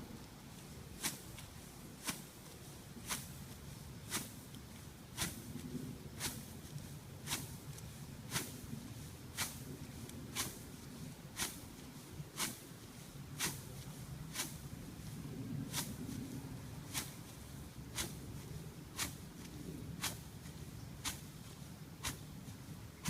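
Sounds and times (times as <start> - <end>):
crunching swish of flattened stems: 0.0 - 23.0
steady low rumble: 0.0 - 23.0.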